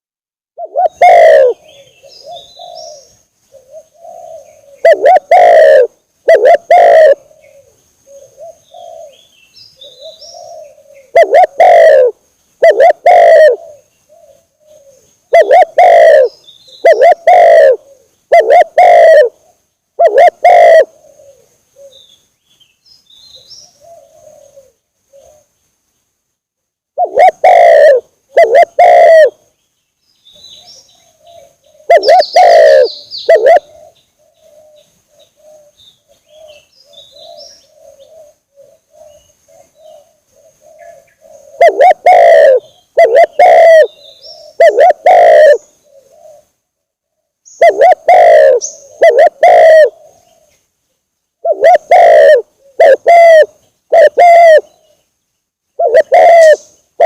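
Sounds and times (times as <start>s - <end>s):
dove cooing: 0.6s - 22.2s, 23.3s - 25.5s, 27.0s - 29.4s, 30.4s - 50.6s, 51.4s - 55.0s, 55.8s - 57.0s
faint bird chirping: 0.6s - 57.0s.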